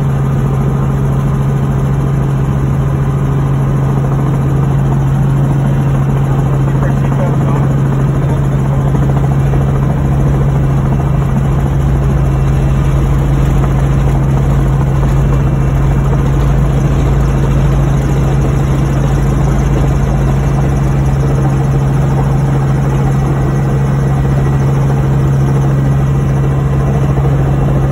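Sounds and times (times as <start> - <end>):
helicopter engine and rotor drone: 0.0 - 27.9.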